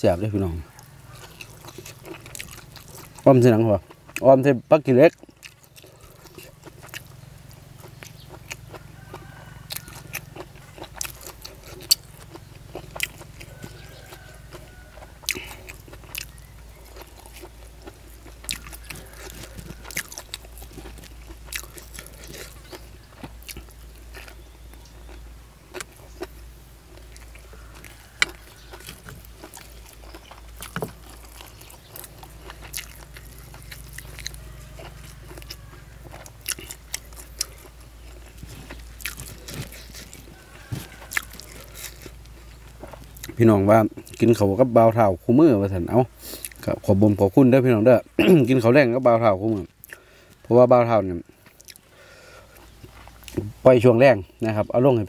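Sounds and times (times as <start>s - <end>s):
chewing crunchy food: 0.2s - 55.0s.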